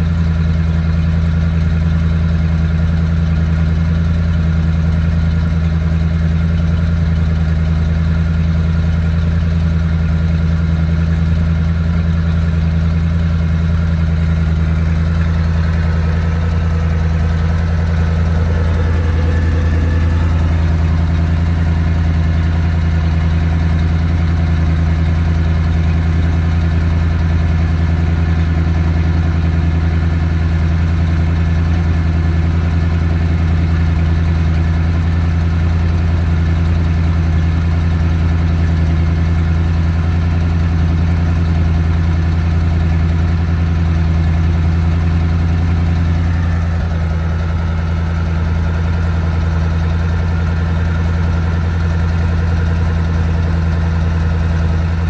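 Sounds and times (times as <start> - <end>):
boat engine idling: 0.0 - 55.0.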